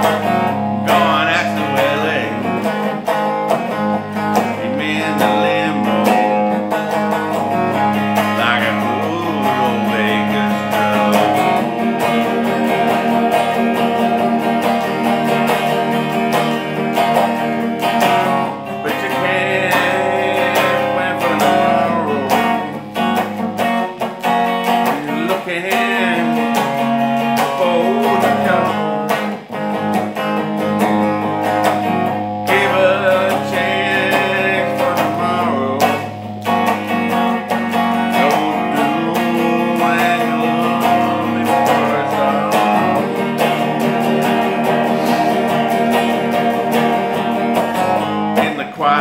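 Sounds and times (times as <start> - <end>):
man singing: 0.0 - 17.1, 17.8 - 29.3, 32.4 - 49.0
electric guitar strummed and picked: 0.0 - 49.0.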